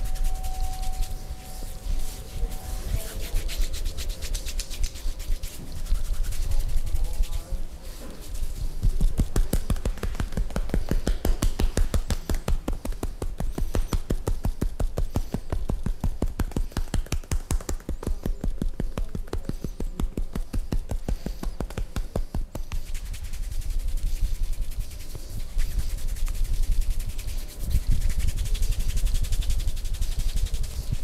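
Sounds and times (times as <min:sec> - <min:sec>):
hands slapping during massage: 0:00.0 - 0:31.0.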